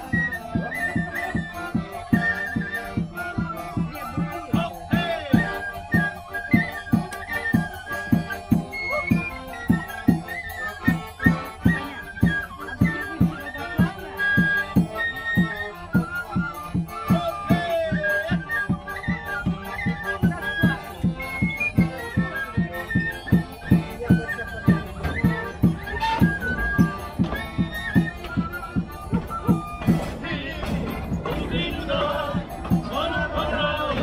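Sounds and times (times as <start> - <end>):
accordion: 0.0 - 34.0
flute: 0.0 - 34.0.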